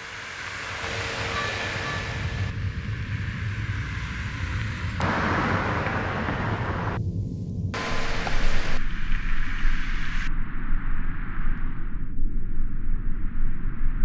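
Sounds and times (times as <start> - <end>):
dense rumbling noise: 0.4 - 14.0.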